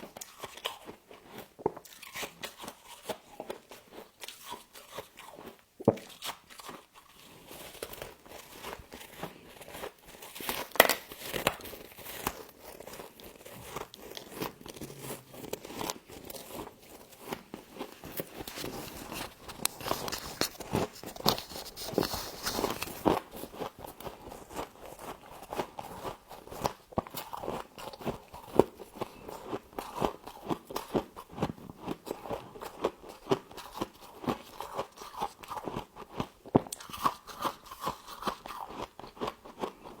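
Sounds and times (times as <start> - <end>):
crunching and chewing ice: 0.0 - 40.0.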